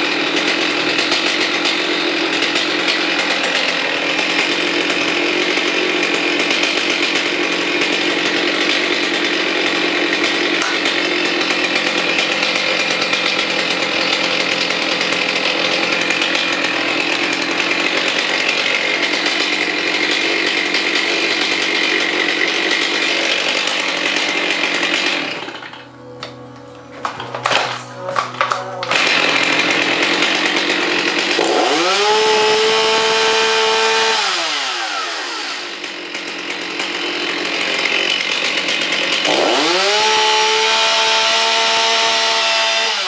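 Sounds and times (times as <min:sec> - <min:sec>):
chainsaw engine running steadily: 0:00.0 - 0:43.0.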